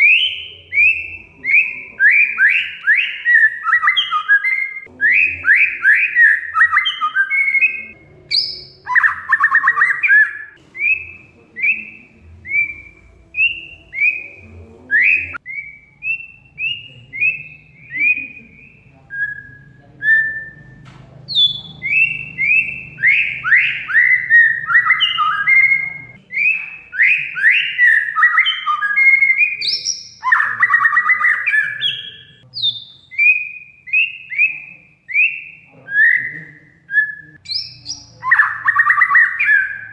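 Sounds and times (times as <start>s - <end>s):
bird harsh rapid chatter: 0.0s - 15.4s, 16.0s - 34.2s, 37.4s - 39.9s
bird singing whistled notes: 0.0s - 39.9s.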